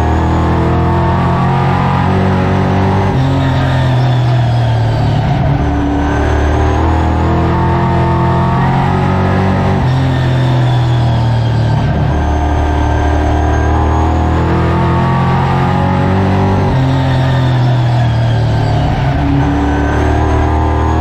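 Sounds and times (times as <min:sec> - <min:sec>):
racing car engine running hard: 0:00.0 - 0:21.0.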